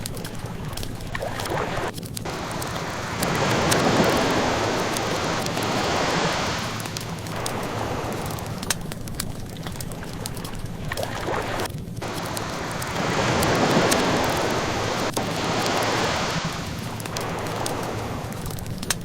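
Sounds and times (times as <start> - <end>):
ocean waves washing in: 0.0 - 19.0
wood fire crackling: 0.0 - 19.0.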